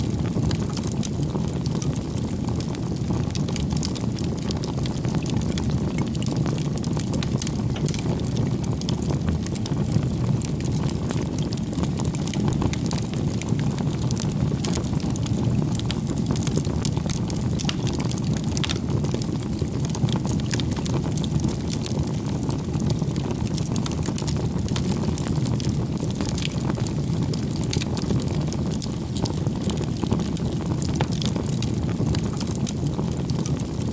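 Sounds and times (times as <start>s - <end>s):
bonfire roaring: 0.0s - 33.9s
fire crackling and popping: 0.0s - 33.9s.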